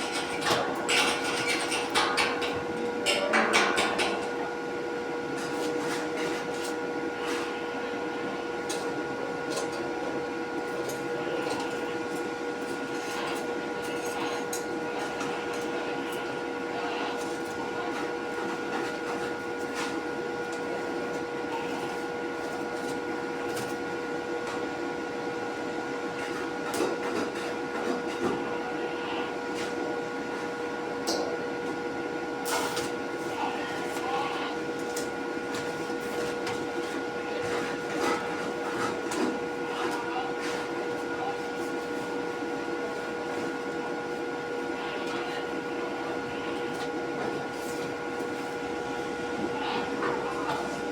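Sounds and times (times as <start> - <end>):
machine humming and whining: 0.0 - 50.9.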